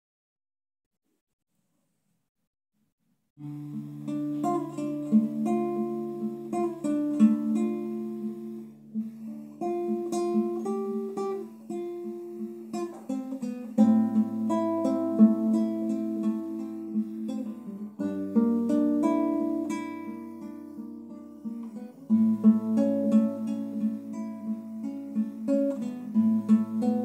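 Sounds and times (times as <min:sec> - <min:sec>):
classical guitar playing: 0:03.4 - 0:27.0.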